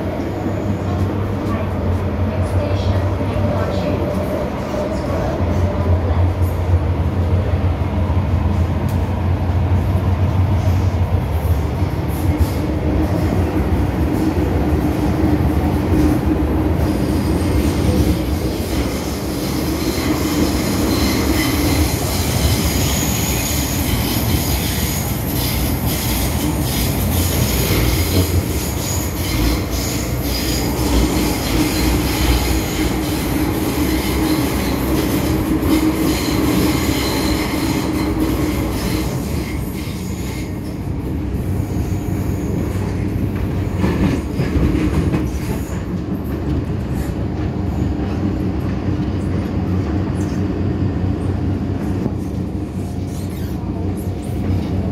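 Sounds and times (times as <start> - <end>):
train wheels and motors rumbling: 0.0 - 54.9.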